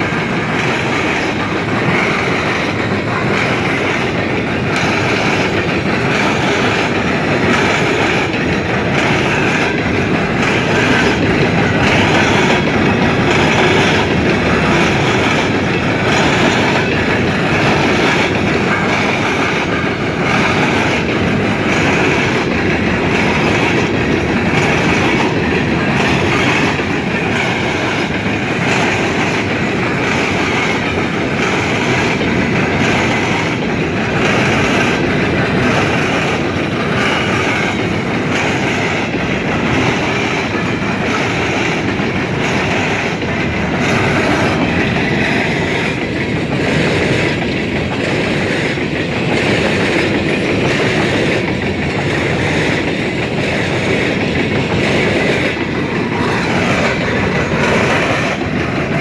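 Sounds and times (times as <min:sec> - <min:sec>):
train wheels rumbling on rails: 0:00.0 - 0:59.0
wheels clacking over rail joints: 0:00.0 - 0:59.0.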